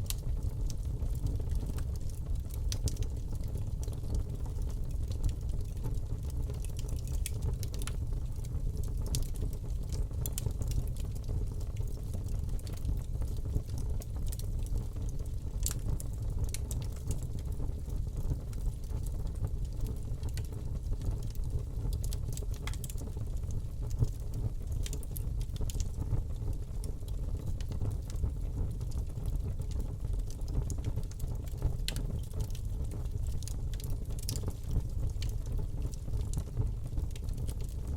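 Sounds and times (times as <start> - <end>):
fire crackling and popping: 0.0 - 37.9
fire flames rumbling: 0.1 - 37.9.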